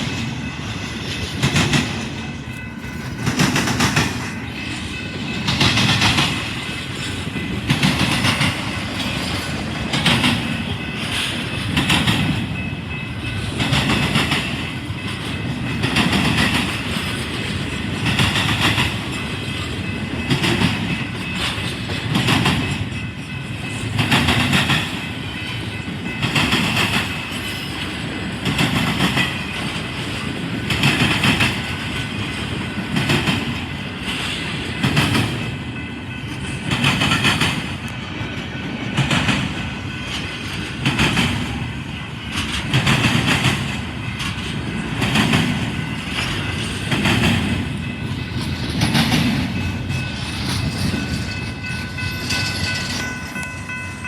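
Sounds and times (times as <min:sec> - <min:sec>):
train cars rumbling past: 0:00.0 - 0:54.0
wheels clacking over rail joints: 0:00.0 - 0:54.0.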